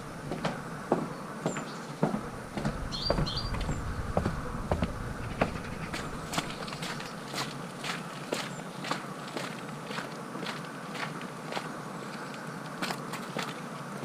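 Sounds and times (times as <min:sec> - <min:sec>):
footsteps walking: 0:00.0 - 0:13.7
steady low hum: 0:00.0 - 0:14.0.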